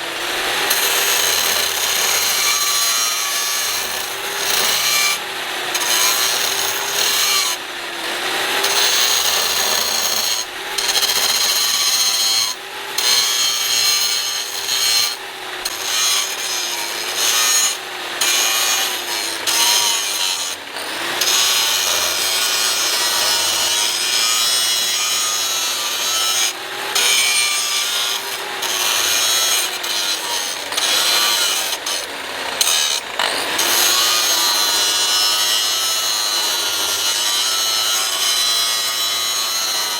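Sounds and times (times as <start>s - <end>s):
power tool abrading material: 0.0s - 39.9s.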